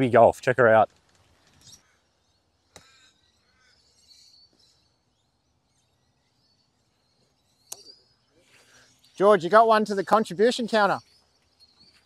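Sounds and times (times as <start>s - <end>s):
faint bird chirps: 1.4s - 12.0s.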